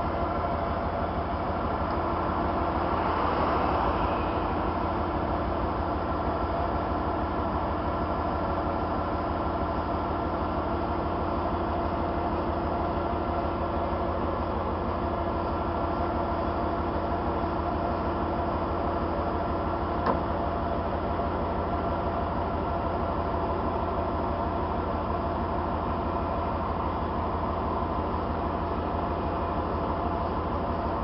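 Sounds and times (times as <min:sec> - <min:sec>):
diesel truck engine throbbing: 0:00.0 - 0:31.0.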